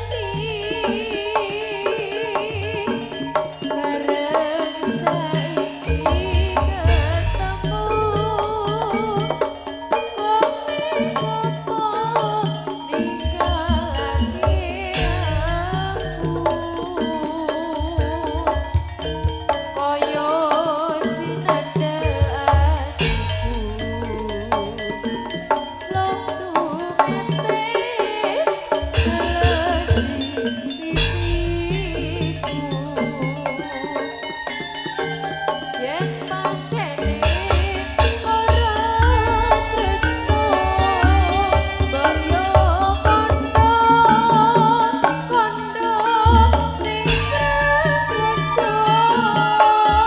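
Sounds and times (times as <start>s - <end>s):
hand drums beating: 0.0s - 45.5s, 46.2s - 50.0s
percussion ensemble playing: 0.0s - 50.0s
wavering high melody: 0.0s - 50.0s.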